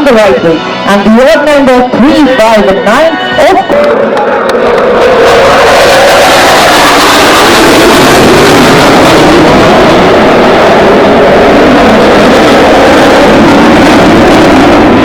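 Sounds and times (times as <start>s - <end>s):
jets flying low overhead: 0.0s - 15.0s.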